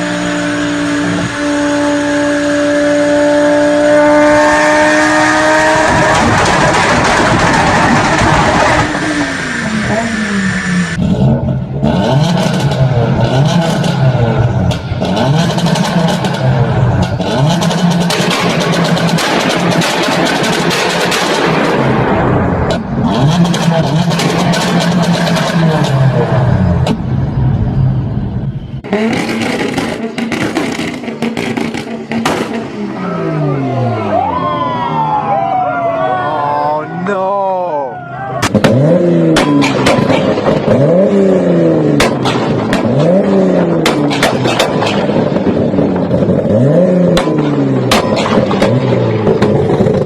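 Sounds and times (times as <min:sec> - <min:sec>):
car engine revving: 0:00.0 - 0:35.2, 0:38.4 - 0:50.0.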